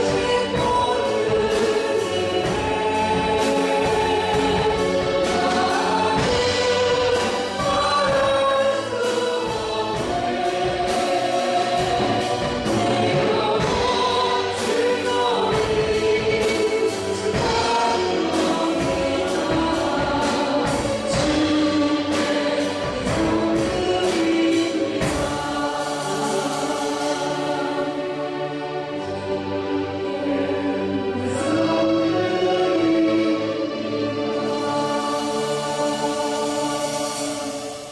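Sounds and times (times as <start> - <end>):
group singing worship song: 0.0 - 37.9
instrumental accompaniment: 0.0 - 37.9.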